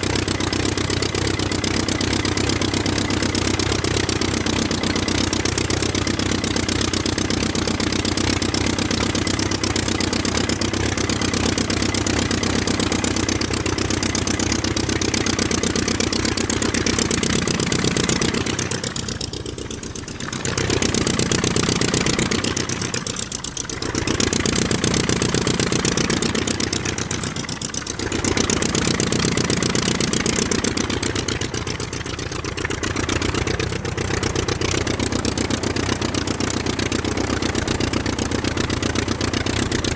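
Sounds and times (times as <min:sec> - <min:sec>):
engine running with fast pulse: 0:00.0 - 0:39.9.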